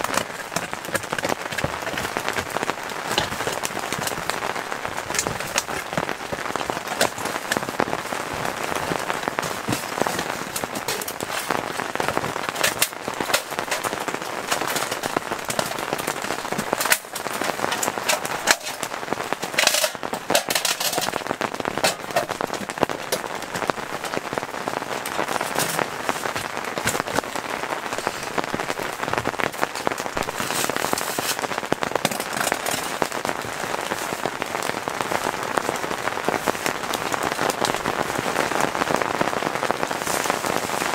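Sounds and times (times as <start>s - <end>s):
aluminium foil crinkling: 0.0s - 35.6s
rain on tent fabric: 0.0s - 40.9s.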